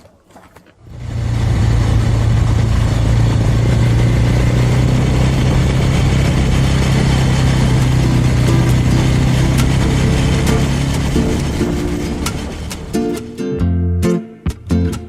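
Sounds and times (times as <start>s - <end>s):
motorcycle engine running: 0.8s - 13.3s
wind rushing over microphone: 1.0s - 13.2s.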